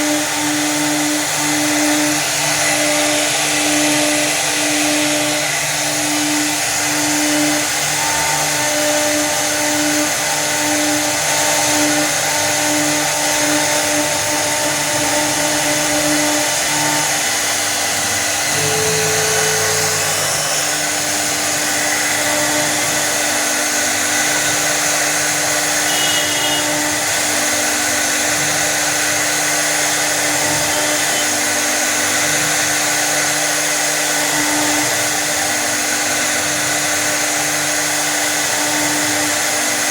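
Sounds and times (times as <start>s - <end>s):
pulsing motor tones: 0.0s - 33.0s
router spindle whining: 0.0s - 39.9s.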